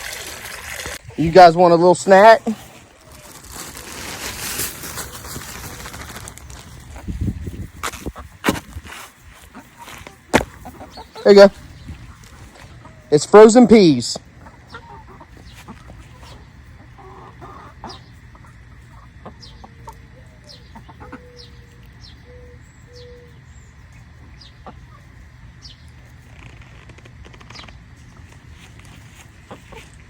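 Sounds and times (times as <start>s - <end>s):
chickens clucking: 0.7s - 26.4s, 27.3s - 30.0s
high chick chirps: 1.0s - 26.4s, 27.3s - 30.0s.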